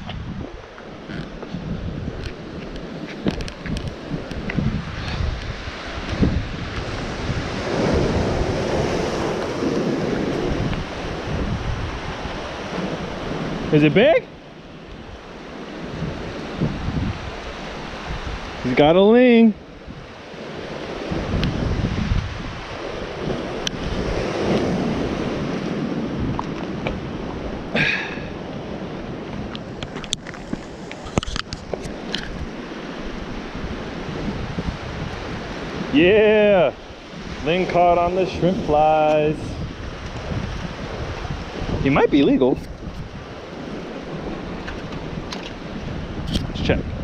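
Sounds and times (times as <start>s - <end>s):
ocean surf breaking on boulders: 0.0s - 47.0s
wind buffeting microphone: 0.0s - 47.0s.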